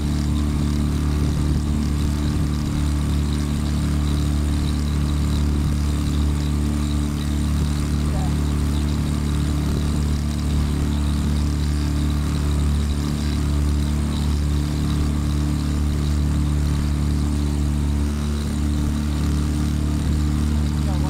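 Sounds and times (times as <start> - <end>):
boat motor droning: 0.0 - 21.0.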